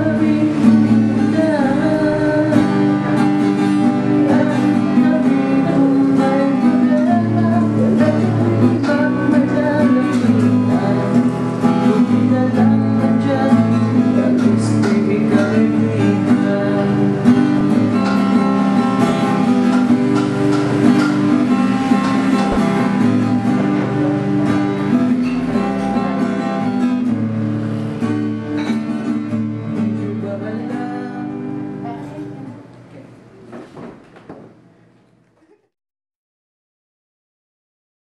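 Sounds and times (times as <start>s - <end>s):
acoustic guitar strummed and plucked: 0.0s - 32.8s.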